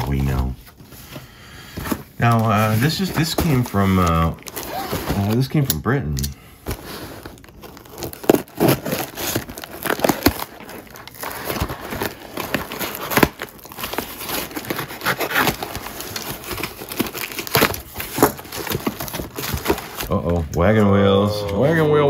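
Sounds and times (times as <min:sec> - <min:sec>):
wrapping crinkling: 0:00.0 - 0:05.7, 0:06.5 - 0:22.0
cardboard parcel tearing open: 0:01.9 - 0:05.7, 0:06.6 - 0:21.9.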